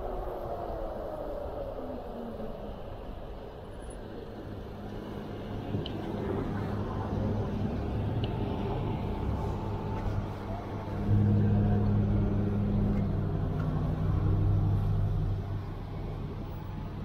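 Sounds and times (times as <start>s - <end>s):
road noise: 0.0s - 17.0s
vehicle engine hum: 2.1s - 17.0s.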